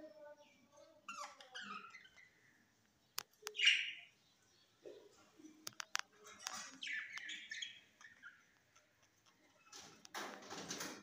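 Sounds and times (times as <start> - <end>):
budgerigars chirping and chattering: 0.4 - 10.1.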